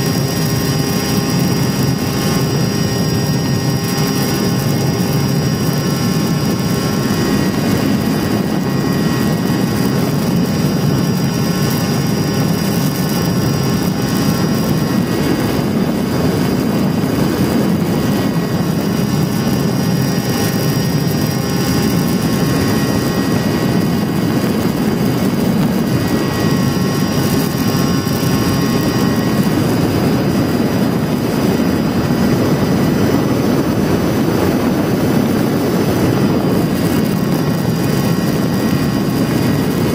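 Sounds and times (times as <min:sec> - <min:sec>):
model plane motor whine: 0:00.0 - 0:39.9.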